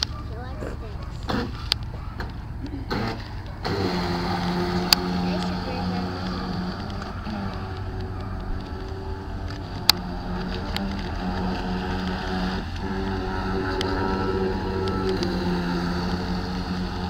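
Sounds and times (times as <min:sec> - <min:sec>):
electric motor whine of boat: 0:00.0 - 0:17.0.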